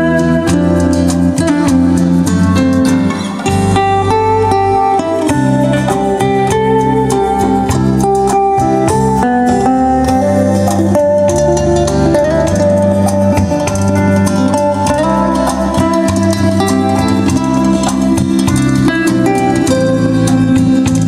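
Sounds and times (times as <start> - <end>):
guitar and bass music on speakers: 0.0 - 21.0.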